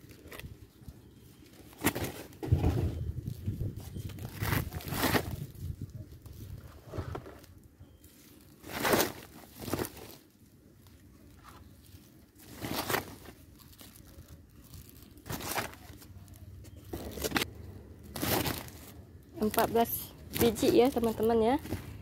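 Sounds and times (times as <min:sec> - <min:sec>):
plastic sack rustling and crinkling: 0:00.0 - 0:22.0.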